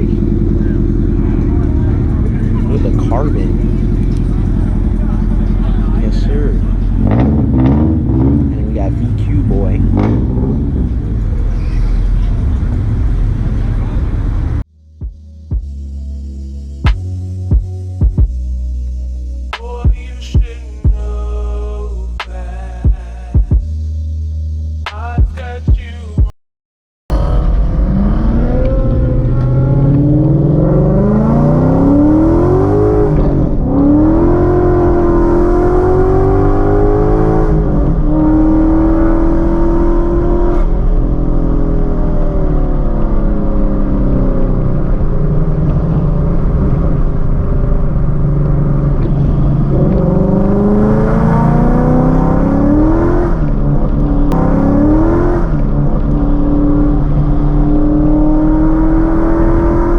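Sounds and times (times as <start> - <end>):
car engine accelerating: 0.0 - 26.2, 27.1 - 59.9.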